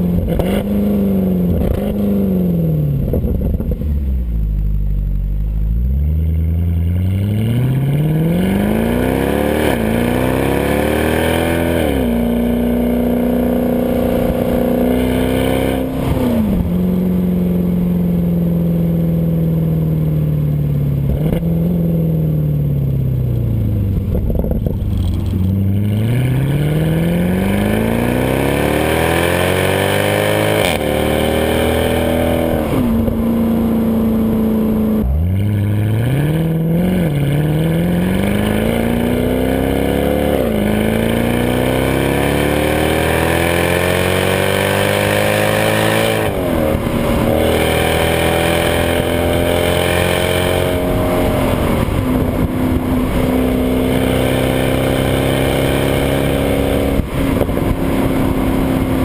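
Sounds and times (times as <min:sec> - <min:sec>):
car engine exhaust note: 0:00.0 - 0:59.0.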